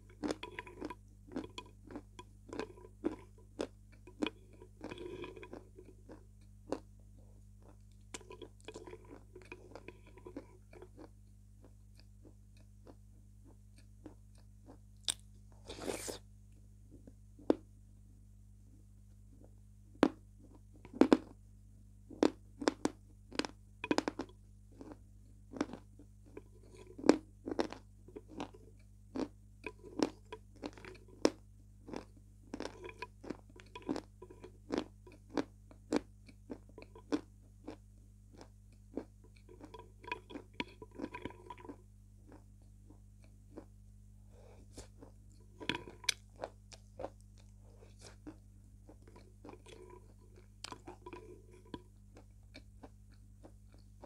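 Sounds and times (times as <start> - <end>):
crunching and chewing chalk: 0.0 - 16.3, 19.3 - 21.4, 22.1 - 54.0.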